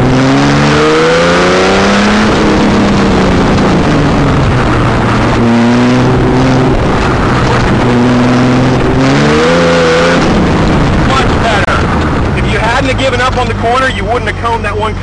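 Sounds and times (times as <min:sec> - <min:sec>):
wind noise: 0:00.0 - 0:14.1
car engine revving: 0:00.0 - 0:15.0.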